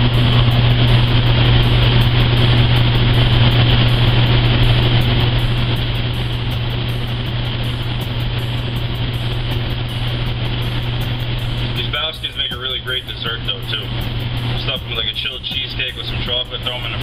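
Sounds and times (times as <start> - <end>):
kitchen ventilation hum: 0.0 - 17.0.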